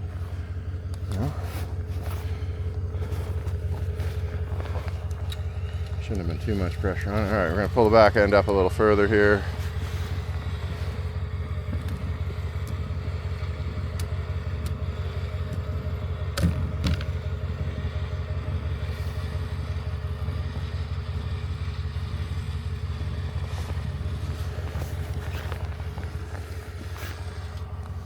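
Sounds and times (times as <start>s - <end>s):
vehicle engine running steadily: 0.0s - 28.0s.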